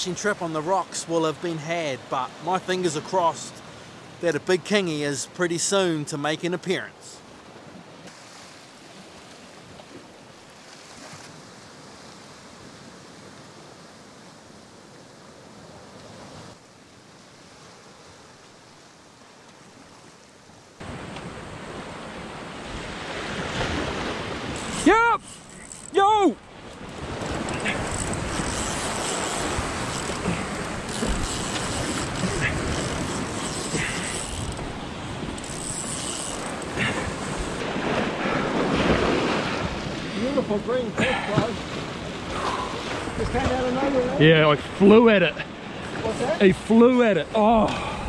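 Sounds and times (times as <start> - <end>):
surf on rocky shore: 0.0 - 48.0.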